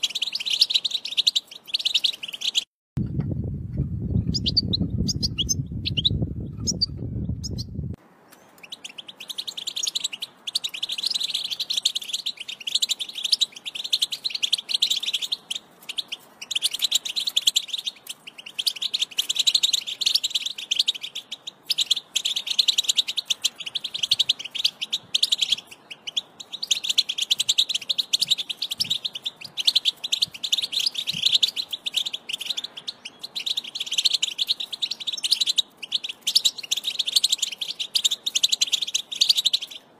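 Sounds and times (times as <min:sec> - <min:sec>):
finch chirps and trills: 0:00.0 - 0:02.7, 0:04.0 - 0:39.9.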